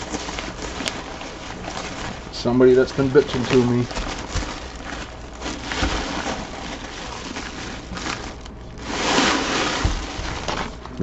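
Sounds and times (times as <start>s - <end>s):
fabric bag rustling: 0.0s - 11.0s
plastic wrap crinkling: 0.0s - 11.0s.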